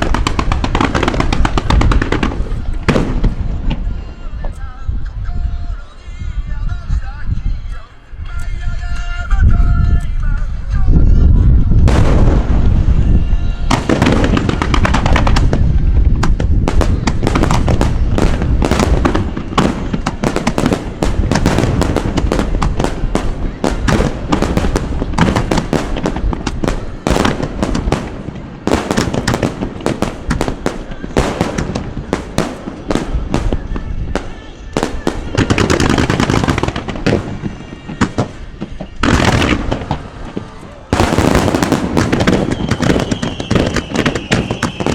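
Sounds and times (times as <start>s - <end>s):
fireworks bursting and crackling: 0.0s - 5.1s, 8.8s - 44.9s.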